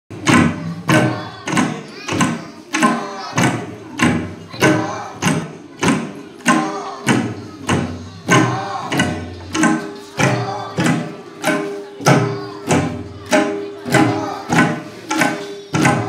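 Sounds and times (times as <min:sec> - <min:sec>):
tabla drums playing: 0:00.1 - 0:16.0.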